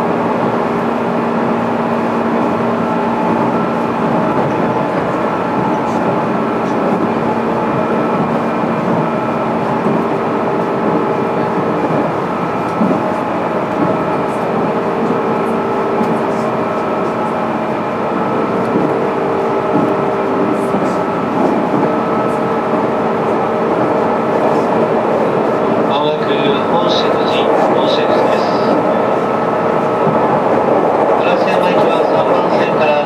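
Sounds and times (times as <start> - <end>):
wheels on rail: 0.0 - 33.0.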